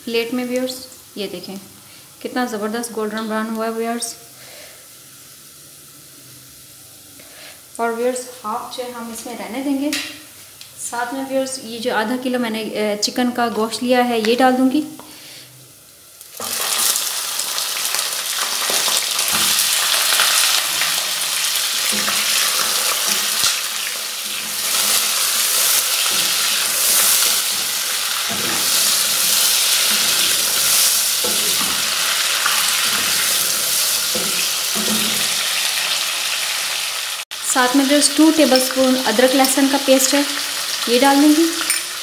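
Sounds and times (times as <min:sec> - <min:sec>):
chicken sizzling in hot oil: 0:01.0 - 0:07.7, 0:15.1 - 0:42.0.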